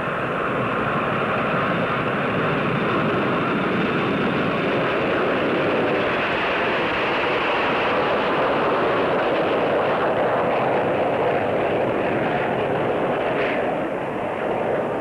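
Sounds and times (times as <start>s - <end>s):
jet airliner roar on takeoff: 0.0s - 15.0s.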